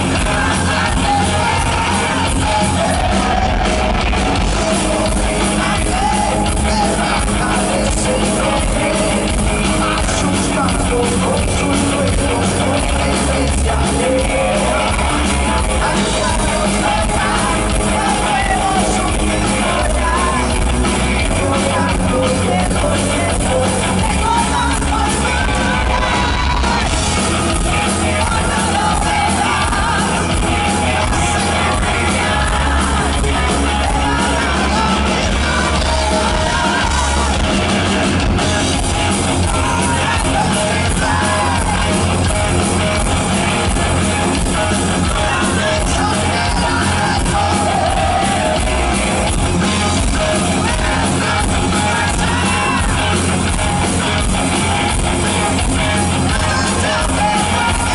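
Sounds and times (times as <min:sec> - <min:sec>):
heavy metal band playing live: 0:00.0 - 0:57.9
person singing: 0:00.0 - 0:57.9.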